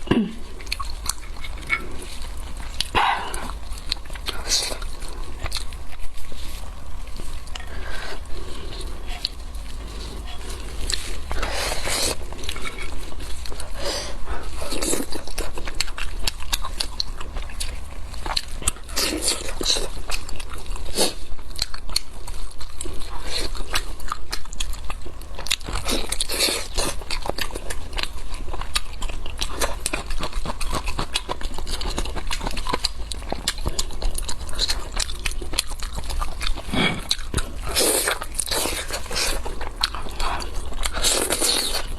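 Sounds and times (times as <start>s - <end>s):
steady low hum: 0.0s - 21.0s, 23.6s - 41.9s
close chewing and wet smacking: 0.0s - 41.9s
crackly crunches: 0.0s - 41.9s.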